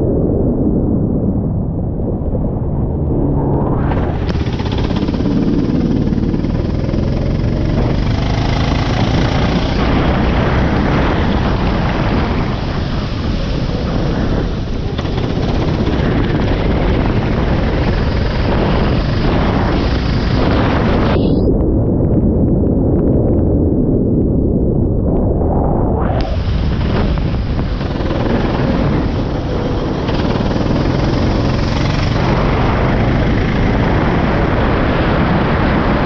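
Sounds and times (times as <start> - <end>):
loud rushing noise: 1.6 - 21.5, 25.3 - 36.0.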